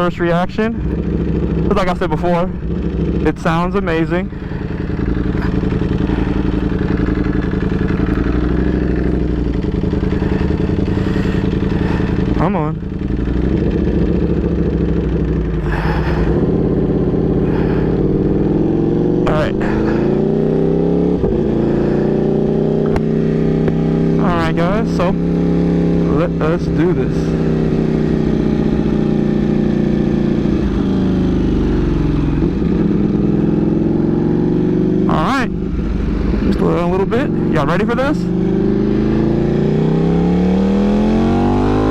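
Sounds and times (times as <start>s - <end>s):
motorcycle engine running loud: 0.0s - 41.9s.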